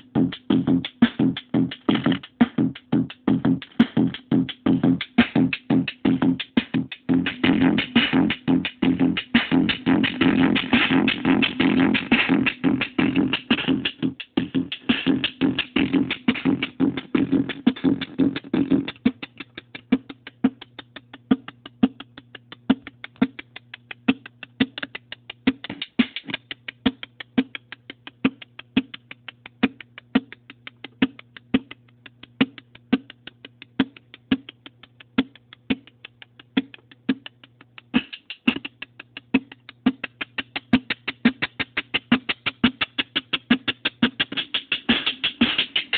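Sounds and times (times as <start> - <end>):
distorted drum machine beats: 0.0 - 45.9.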